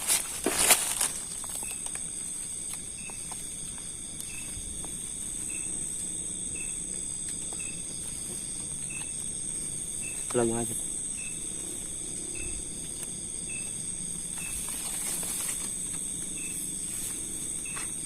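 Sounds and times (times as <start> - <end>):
cricket trill: 0.0 - 18.0
rustle: 0.0 - 18.0
short insect chirp: 0.0 - 18.0.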